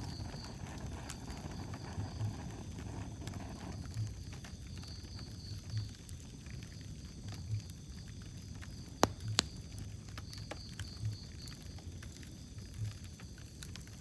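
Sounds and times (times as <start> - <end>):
sharp pops of fire: 0.0 - 14.0
wood fire crackling: 0.0 - 14.0.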